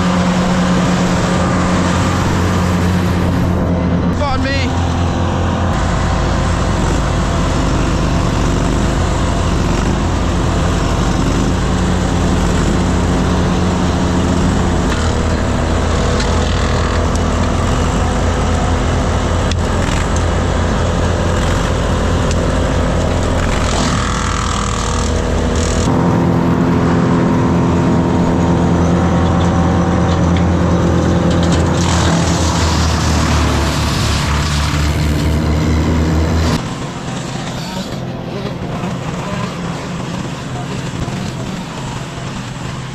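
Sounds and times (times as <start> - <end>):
large machinery engine running: 0.0 - 42.9.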